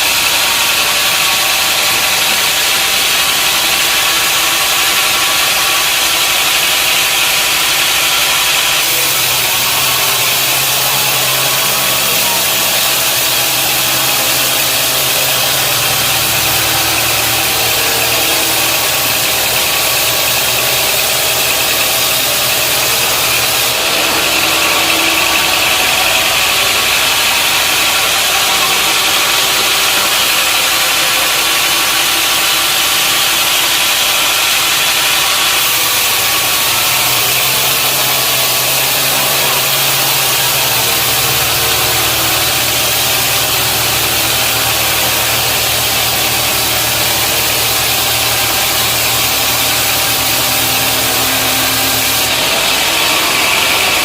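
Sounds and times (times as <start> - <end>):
engine hum: 0.0 - 54.0
loud machinery hiss: 0.0 - 54.0.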